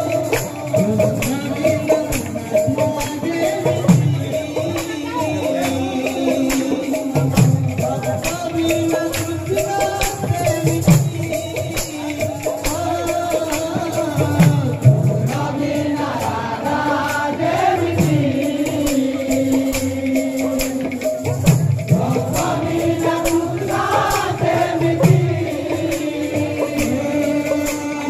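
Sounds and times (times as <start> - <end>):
man singing into a microphone: 0.0 - 28.0
voices singing along: 0.0 - 28.0.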